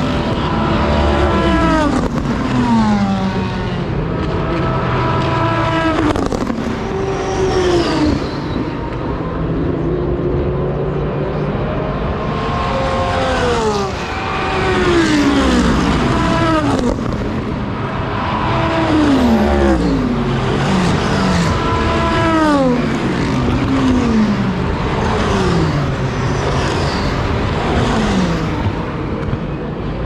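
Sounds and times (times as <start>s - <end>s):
race cars passing at speed: 0.0s - 30.0s.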